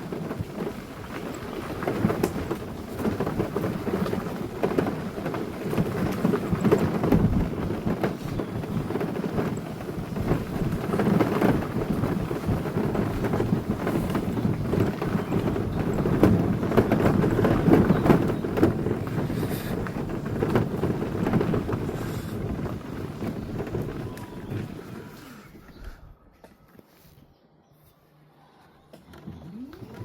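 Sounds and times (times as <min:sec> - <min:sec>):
wind buffeting microphone: 0:00.0 - 0:26.3
gravel crunching: 0:00.0 - 0:27.3.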